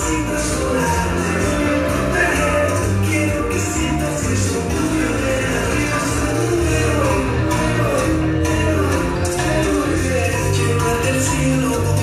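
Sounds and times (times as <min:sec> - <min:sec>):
latin dance music: 0:00.0 - 0:12.0.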